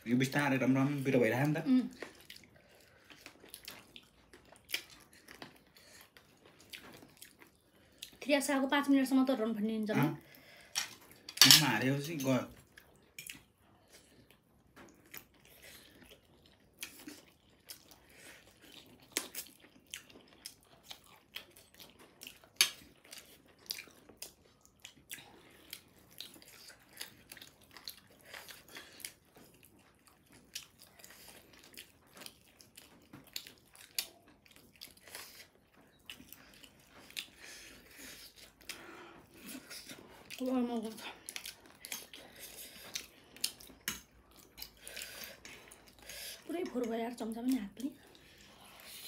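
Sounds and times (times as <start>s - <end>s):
person chewing food: 0.3s - 8.2s, 10.0s - 49.0s.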